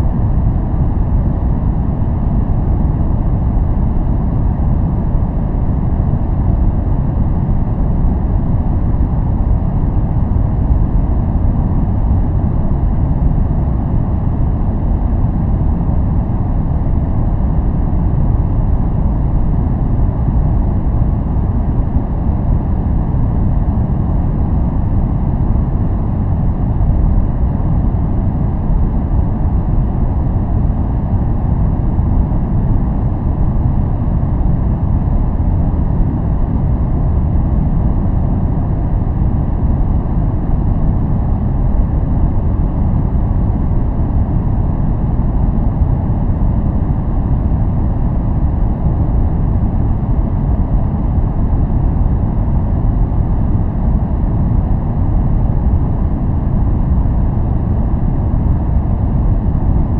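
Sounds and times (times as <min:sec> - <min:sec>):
deep low white noise: 0:00.0 - 0:59.9.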